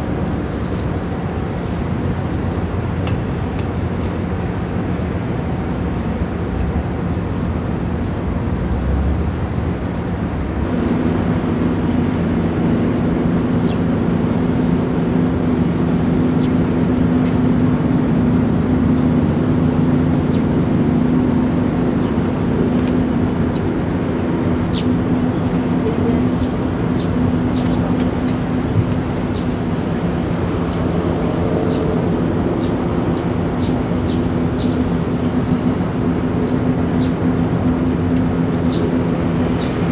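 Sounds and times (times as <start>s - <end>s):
engine drone: 0.0s - 39.9s.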